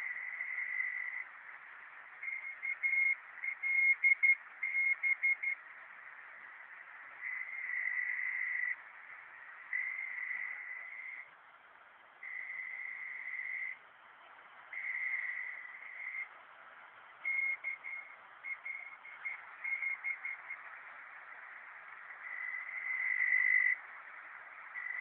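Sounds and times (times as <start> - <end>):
static hiss: 0.0 - 25.0.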